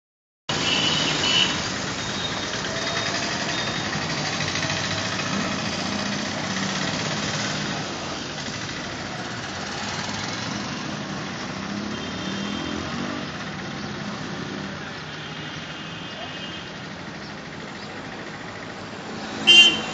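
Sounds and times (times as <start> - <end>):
street traffic noise: 0.5 - 19.9.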